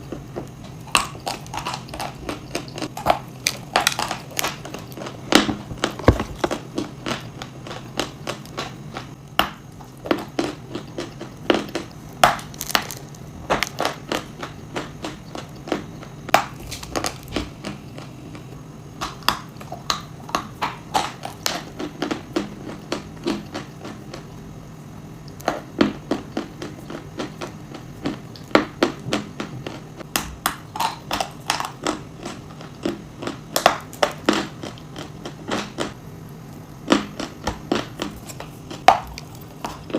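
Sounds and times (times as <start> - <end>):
low steady hum: 0.0 - 39.9
person crunching and chewing: 0.1 - 24.4, 25.3 - 39.9.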